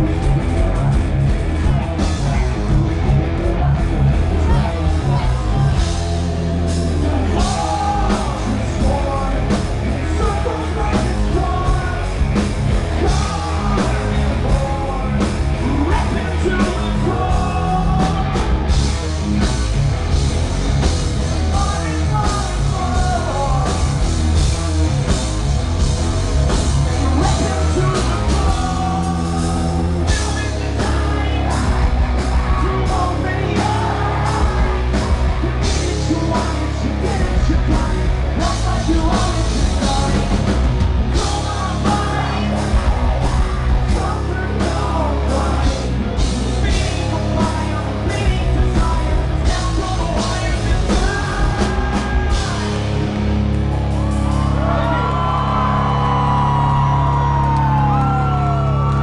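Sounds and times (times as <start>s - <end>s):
singer belting and yelling: 0.0s - 53.3s, 54.0s - 59.0s
live rock band playing: 0.0s - 59.0s.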